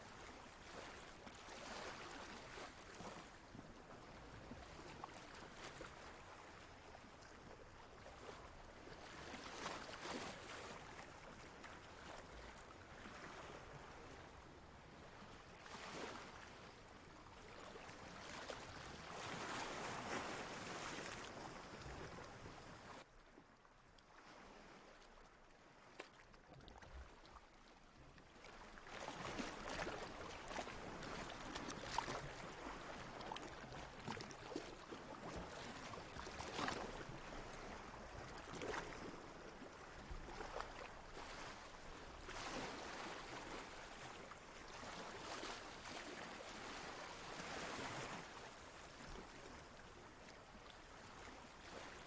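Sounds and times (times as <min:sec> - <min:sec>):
ocean water lapping: 0:00.0 - 0:52.0.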